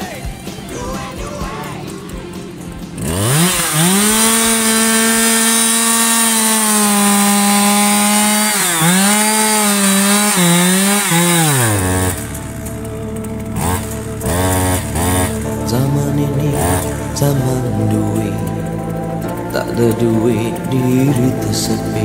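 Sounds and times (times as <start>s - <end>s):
chainsaw cutting into wood: 0.0s - 22.0s.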